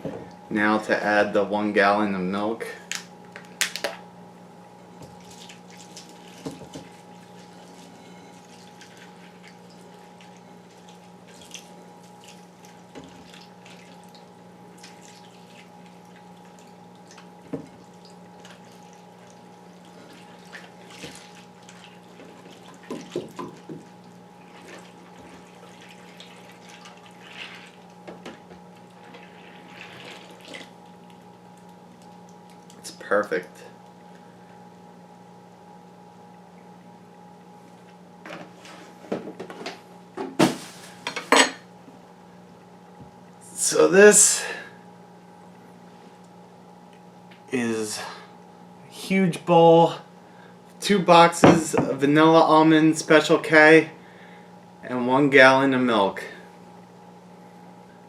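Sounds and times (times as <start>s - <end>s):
low background hum: 0.0s - 58.0s.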